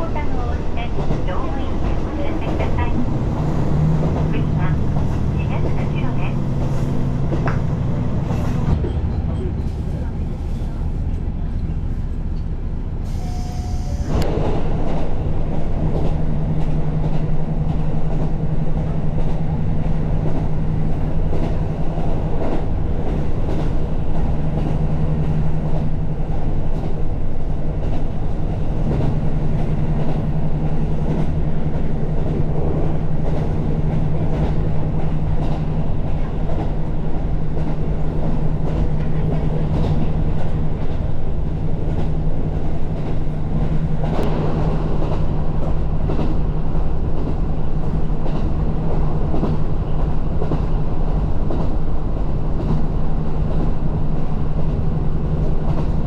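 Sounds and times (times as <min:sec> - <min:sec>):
railcar engine drone: 0:00.0 - 0:56.0
train wheels rumbling: 0:00.0 - 0:56.0.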